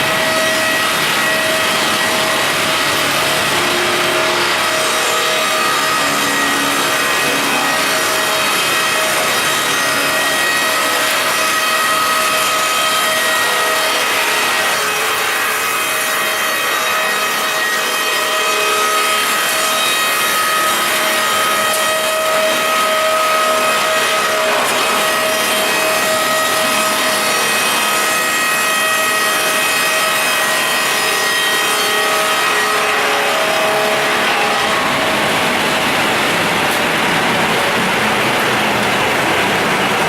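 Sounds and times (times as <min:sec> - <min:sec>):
constant machine whine: 0:00.0 - 0:40.0
machine sawing wood: 0:00.0 - 0:40.0.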